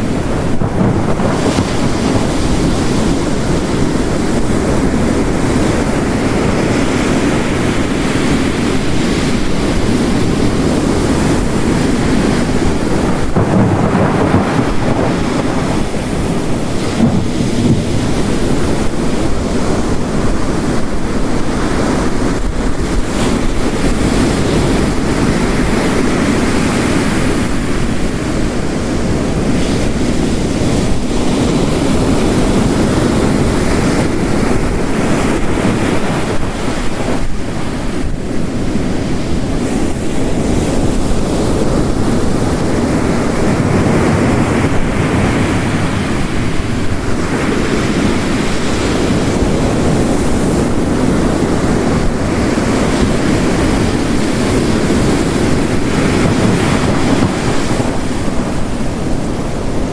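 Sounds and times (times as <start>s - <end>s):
heavy rain: 0.0s - 59.9s
ocean waves crashing on shore: 0.0s - 59.9s.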